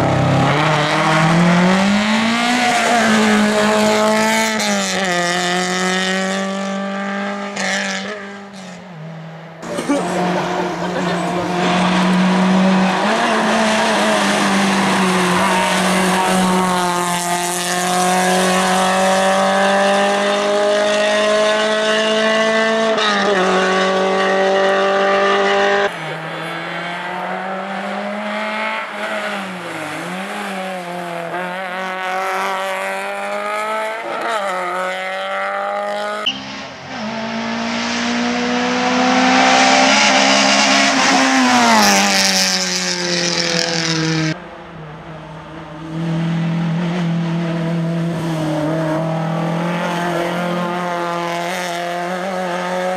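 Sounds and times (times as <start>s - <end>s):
rally car engine at high revs: 0.0s - 44.4s, 45.0s - 52.9s.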